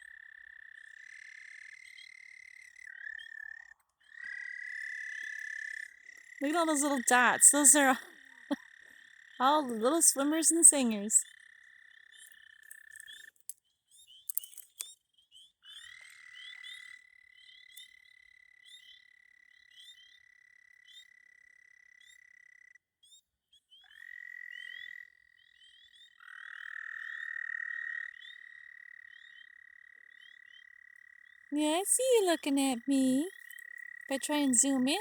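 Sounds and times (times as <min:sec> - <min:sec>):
frog chirps: 0:00.0 - 0:13.4, 0:15.7 - 0:22.7, 0:23.8 - 0:35.0
frogs trilling: 0:00.0 - 0:14.6, 0:15.3 - 0:35.0.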